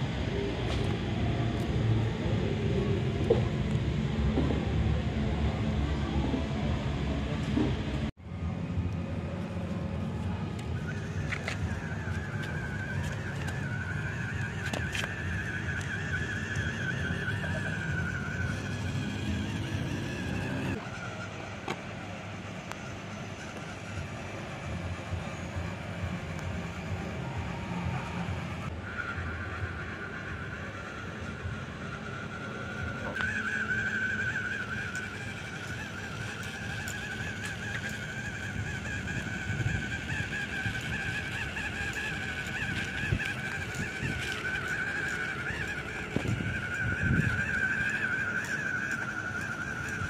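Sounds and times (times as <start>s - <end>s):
toy truck electric motor whining: 0.0s - 8.1s, 9.0s - 50.0s
background hum: 0.0s - 50.0s.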